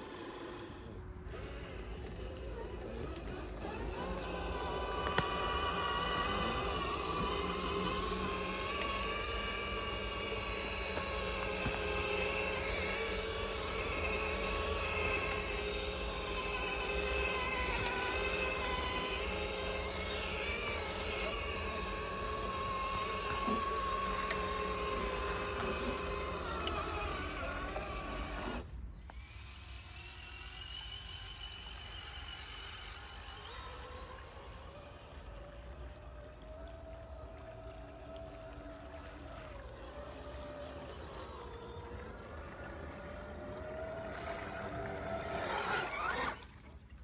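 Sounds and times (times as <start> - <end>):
electric motor and gear whine: 0.0 - 47.0.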